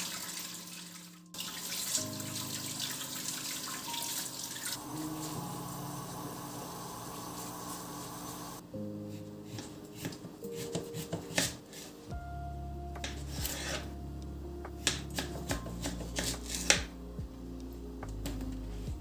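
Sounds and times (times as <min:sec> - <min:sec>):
quiet background music: 0:00.0 - 0:19.0.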